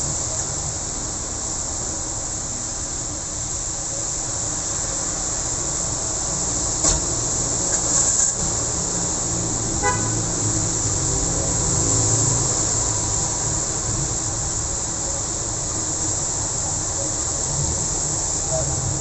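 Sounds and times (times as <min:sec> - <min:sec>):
steady rain hiss: 0:00.0 - 0:19.0
traffic on a wet road: 0:00.0 - 0:19.0.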